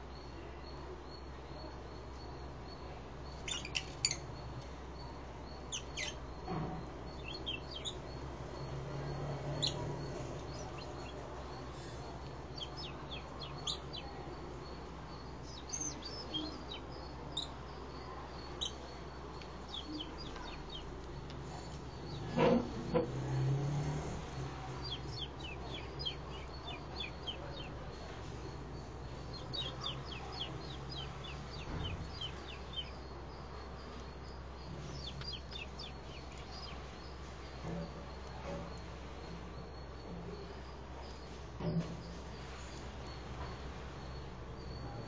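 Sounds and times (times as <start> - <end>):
lovebirds chirping: 0.0 - 45.0.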